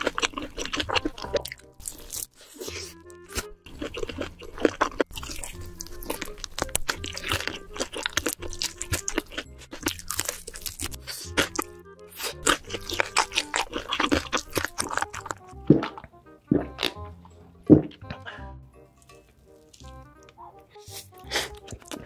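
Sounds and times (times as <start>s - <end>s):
crunchy chewing of fried chicken: 0.0s - 17.0s, 19.0s - 22.0s
background music: 0.0s - 22.0s.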